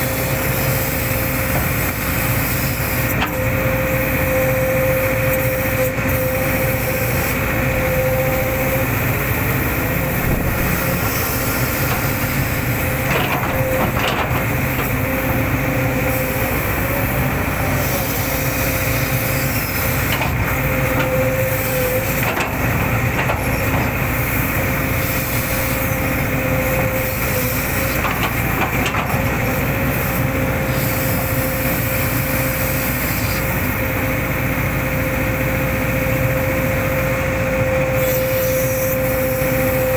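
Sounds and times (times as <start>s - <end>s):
excavator engine running: 0.0s - 39.9s
high hydraulic whine: 0.0s - 39.9s.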